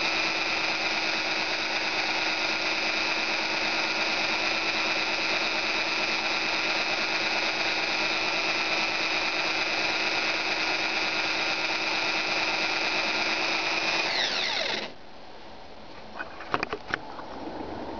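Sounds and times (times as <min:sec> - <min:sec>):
electric drill whining: 0:00.0 - 0:15.0.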